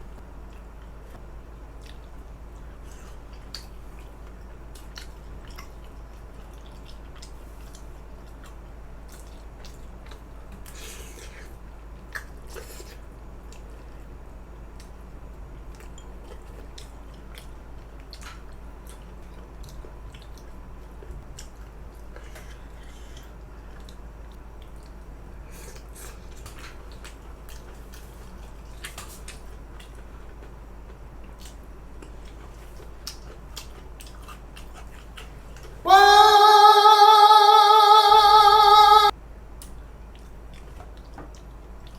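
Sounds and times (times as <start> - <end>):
steady low hum: 0.0 - 40.6.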